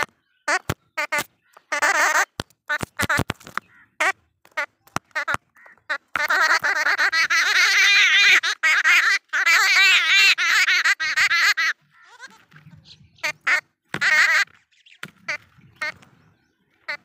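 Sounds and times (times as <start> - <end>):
bird chattering loudly: 0.0 - 16.0.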